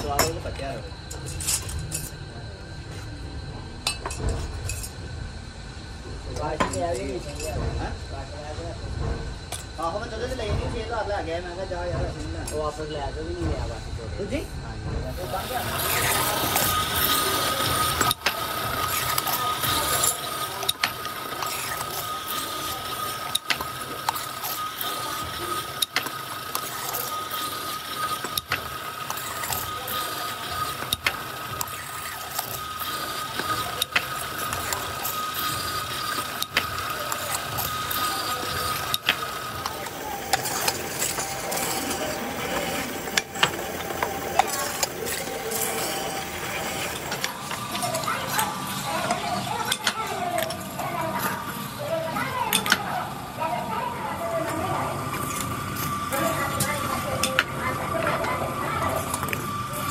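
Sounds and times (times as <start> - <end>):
machine motor whine and rattle: 0.0 - 59.9.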